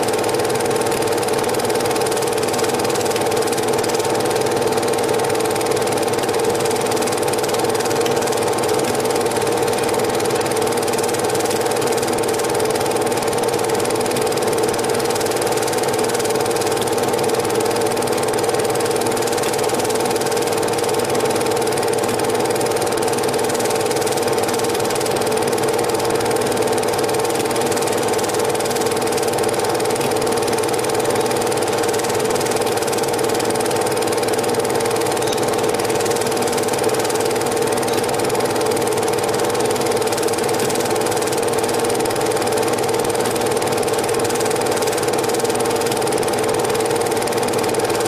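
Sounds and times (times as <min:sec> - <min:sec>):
film projector whirring: 0:00.0 - 0:48.0.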